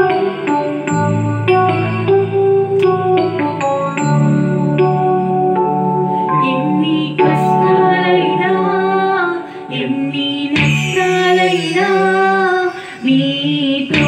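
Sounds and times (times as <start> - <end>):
woman singing into a microphone: 0.0 - 2.1, 3.2 - 14.0
electronic keyboard accompaniment: 0.0 - 14.0.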